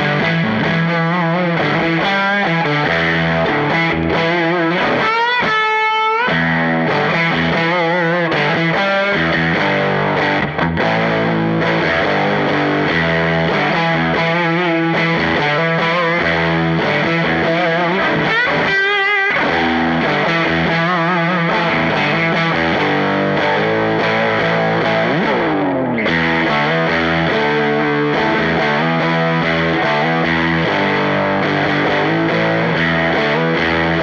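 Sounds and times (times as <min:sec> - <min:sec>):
overdriven electric guitar: 0:00.0 - 0:34.0.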